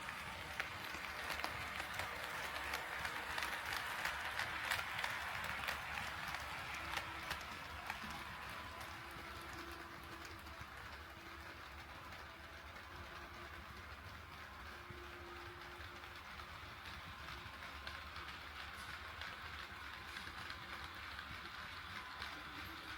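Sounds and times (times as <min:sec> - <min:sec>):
model train wheels rushing: 0:00.0 - 0:22.9.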